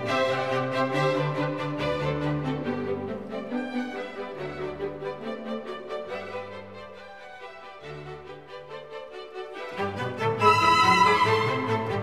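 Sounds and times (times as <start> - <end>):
instrumental music with string notes: 0.0 - 12.0.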